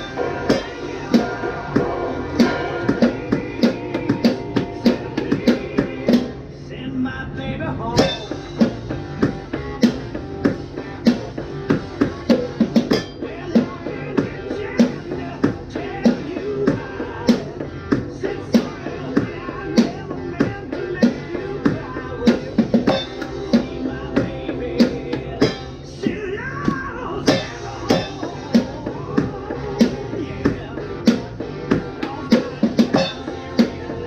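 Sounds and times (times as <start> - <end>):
rock backing track with guitar: 0.0 - 6.5, 8.0 - 34.0
rock drumming: 0.0 - 6.5, 7.9 - 34.0.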